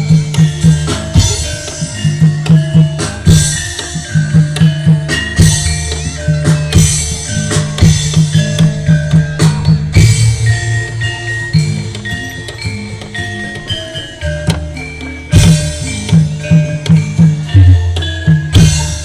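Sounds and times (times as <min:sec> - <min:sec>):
drums beating quick rhythm: 0:00.0 - 0:19.0
ringing struck metal tones: 0:00.0 - 0:19.0.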